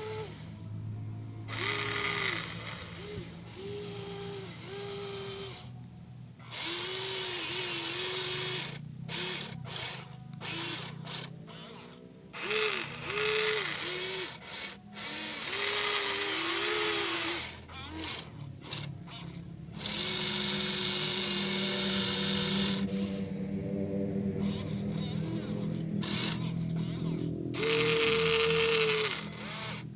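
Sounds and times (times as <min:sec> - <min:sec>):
small electric motors whirring: 0:00.0 - 0:23.4, 0:24.4 - 0:29.9.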